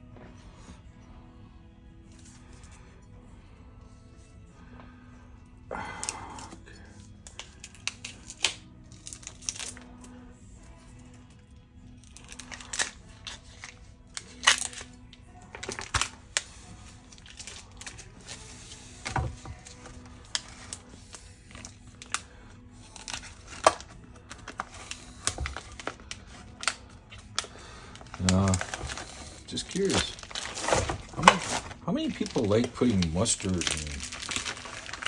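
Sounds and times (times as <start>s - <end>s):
plastic wrapping crinkling and tearing: 5.7s - 10.2s, 11.0s - 35.0s.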